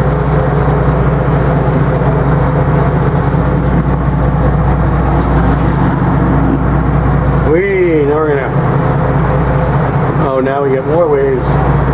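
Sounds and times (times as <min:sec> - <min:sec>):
tugboat engine droning: 0:00.0 - 0:11.9.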